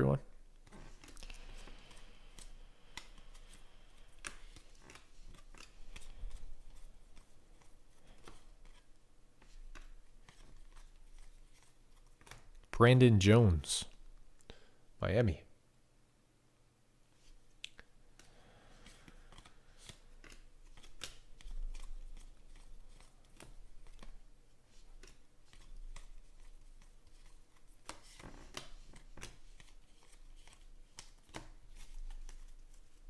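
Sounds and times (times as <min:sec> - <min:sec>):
cards flicking and clicking: 0:00.6 - 0:12.8, 0:18.1 - 0:33.0.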